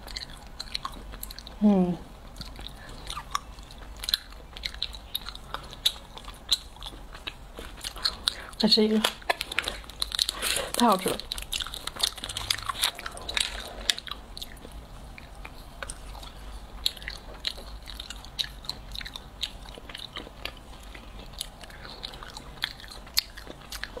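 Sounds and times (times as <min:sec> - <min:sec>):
chewing sticky candy: 0:00.0 - 0:24.0.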